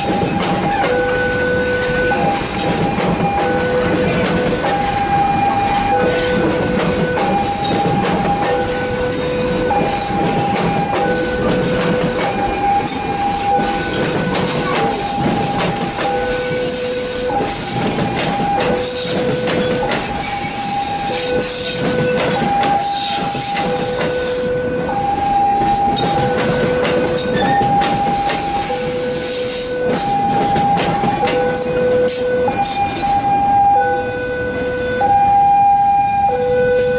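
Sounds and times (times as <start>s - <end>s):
level crossing alarm two-tone: 0.0s - 36.9s
train rumble and wheel clatter: 0.0s - 36.9s.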